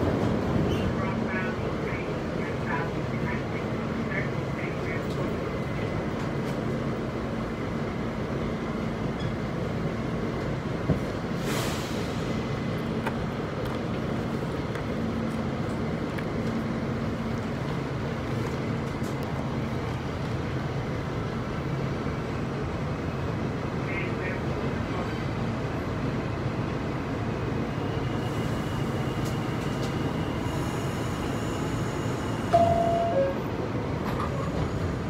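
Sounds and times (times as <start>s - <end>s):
subway car rumbling: 0.0s - 35.0s.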